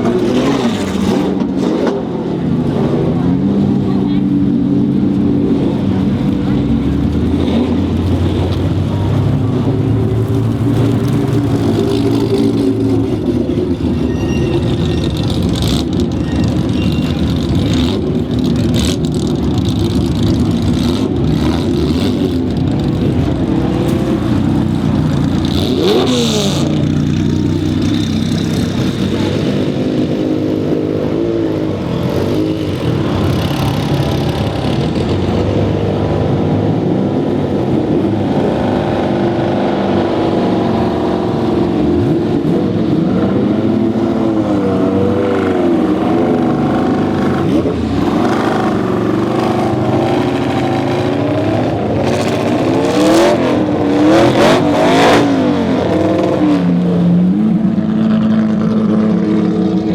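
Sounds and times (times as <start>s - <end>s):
car engine revving: 0.0s - 59.9s
car engines running: 0.0s - 59.9s.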